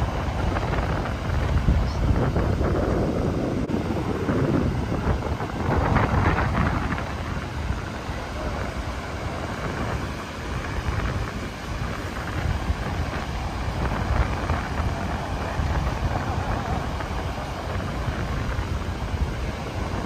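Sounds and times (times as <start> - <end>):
ocean surf: 0.0 - 20.0
wind buffeting microphone: 0.0 - 20.0.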